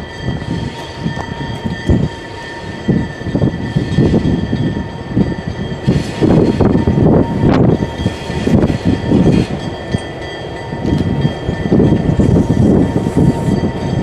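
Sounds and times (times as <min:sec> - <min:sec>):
freight train wheels clanking: 0:00.0 - 0:14.0
high-pitched ringing tone: 0:00.0 - 0:14.0.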